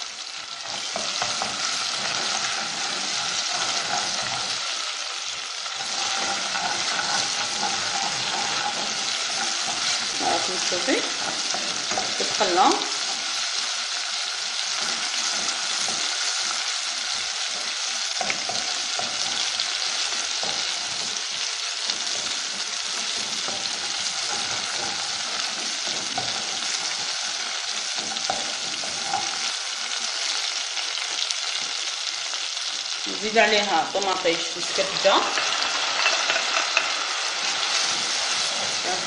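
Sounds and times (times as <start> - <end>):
food sizzling in hot oil: 0.0 - 39.0
wooden spoon scraping: 0.4 - 30.6, 34.4 - 39.0.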